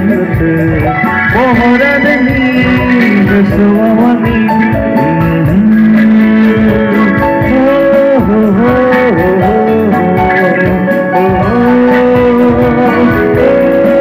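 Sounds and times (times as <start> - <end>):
electric guitar lead: 0.0 - 14.0
keyboard: 0.0 - 14.0
percussion: 0.0 - 14.0.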